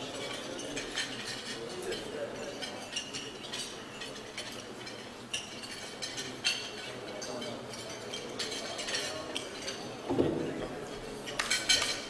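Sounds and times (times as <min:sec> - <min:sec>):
cutlery and cups clinking: 0:00.0 - 0:12.0
faint room chatter: 0:00.0 - 0:12.0.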